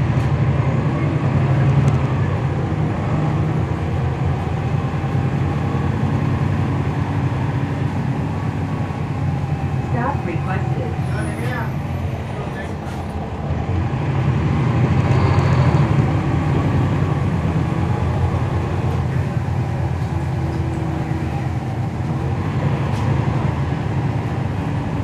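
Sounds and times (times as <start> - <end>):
bus diesel engine rumble: 0.0 - 25.0.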